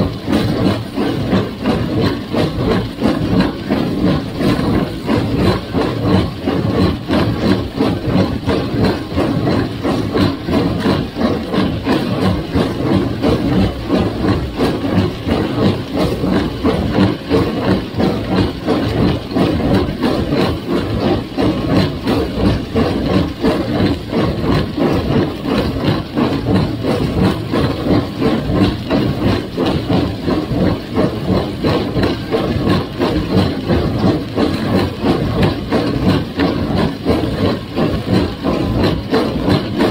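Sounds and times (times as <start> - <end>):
baler rapid pulsing: 0.0 - 39.9
tractor engine running: 0.0 - 39.9.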